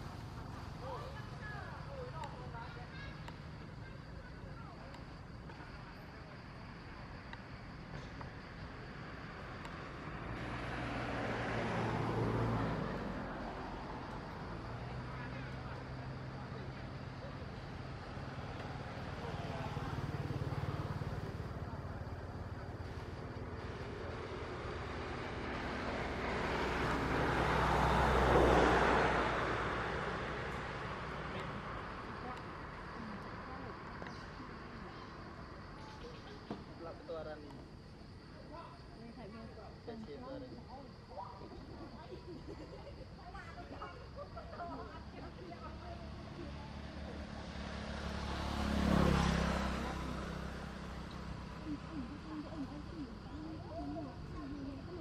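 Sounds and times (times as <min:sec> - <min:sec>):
motor vehicle passing: 0:06.6 - 0:55.0.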